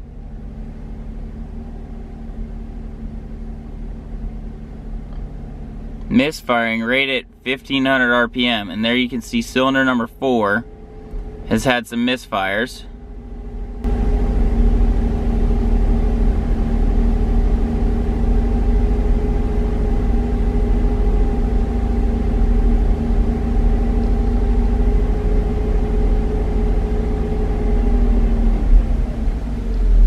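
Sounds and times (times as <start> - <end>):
car engine misfiring: 4.1 - 30.0.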